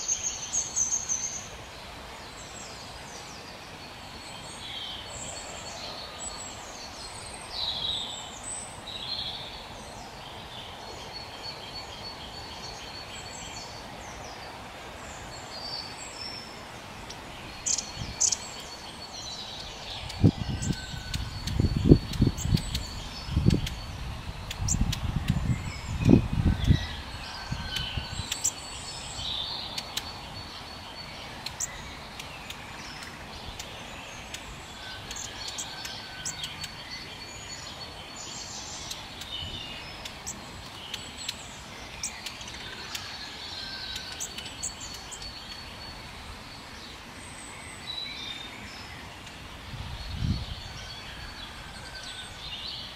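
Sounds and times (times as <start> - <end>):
birds chirping and trilling: 0.0 - 52.9.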